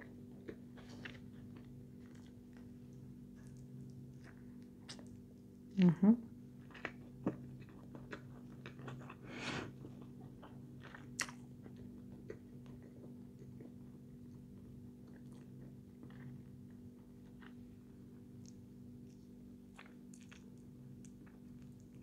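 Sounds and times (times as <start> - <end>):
chewing with mouth closed: 0.0 - 5.3, 6.6 - 22.0.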